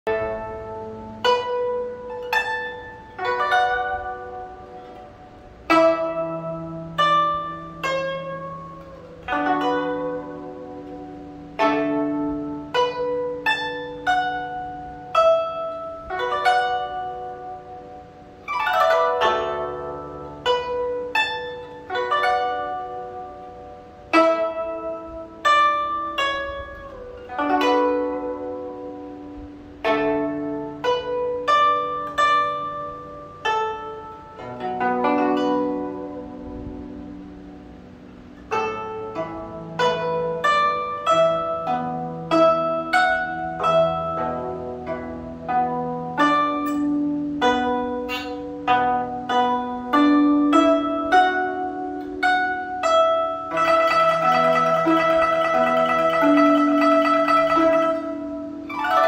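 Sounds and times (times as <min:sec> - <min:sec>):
plucked zither melody: 0:00.0 - 0:59.0.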